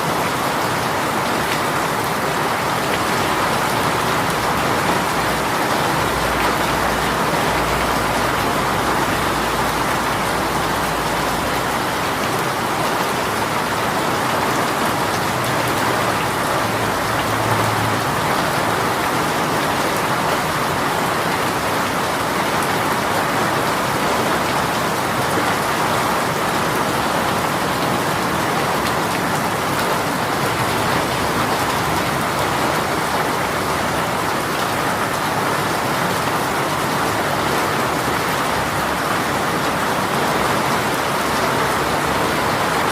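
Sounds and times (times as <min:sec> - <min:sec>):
rain on surfaces: 0:00.0 - 0:42.9.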